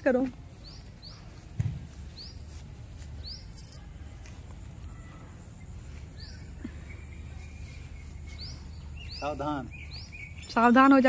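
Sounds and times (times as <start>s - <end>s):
bird chirping: 0.2s - 3.8s, 4.8s - 11.0s.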